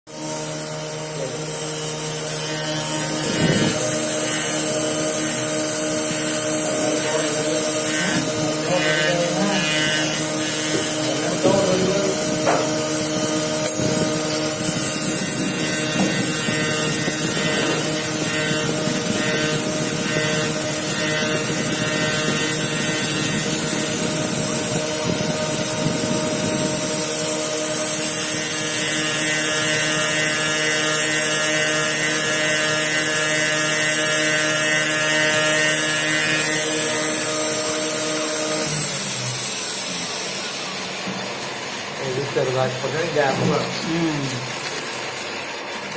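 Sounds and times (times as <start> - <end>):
drilling machine hum: 0.1 - 45.9
rough grainy cutting noise: 0.1 - 45.9.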